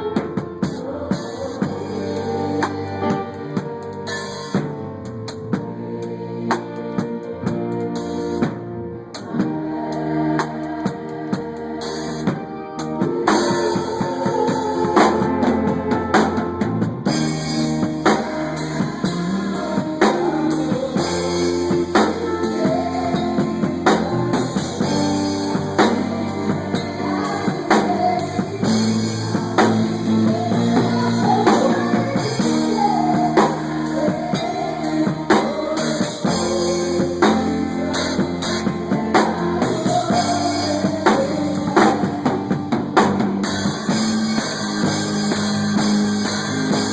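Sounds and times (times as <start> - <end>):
bass: 0.0 - 46.9
drum kit beat: 0.0 - 46.9
guitar: 0.0 - 46.9.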